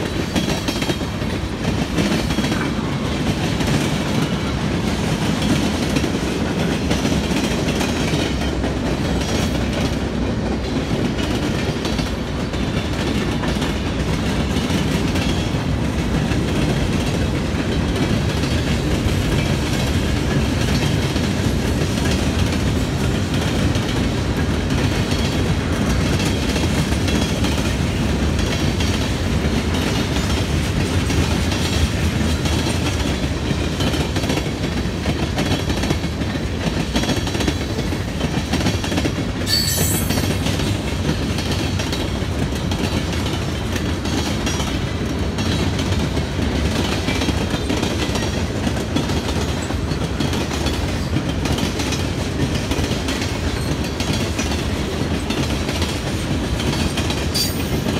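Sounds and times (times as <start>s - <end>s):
steel wheels on rails: 0.0s - 57.9s.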